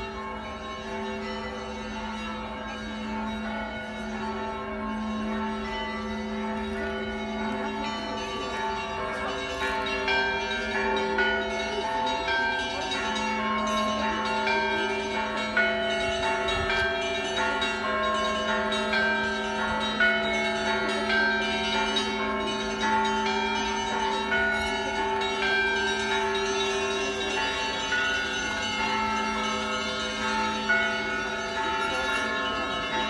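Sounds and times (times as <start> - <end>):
hum of large bells: 0.0 - 33.0
small church bells ringing: 0.0 - 33.0.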